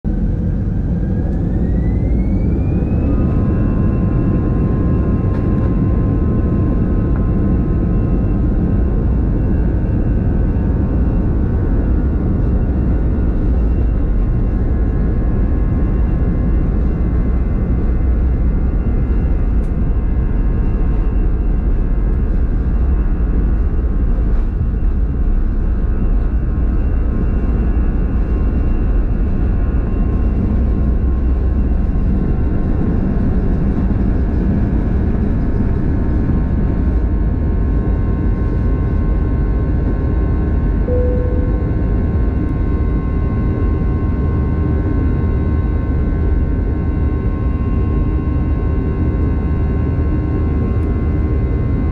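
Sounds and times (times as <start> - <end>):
high steady engine whine: 0.0 - 51.9
jet engines low rumble: 0.0 - 51.9.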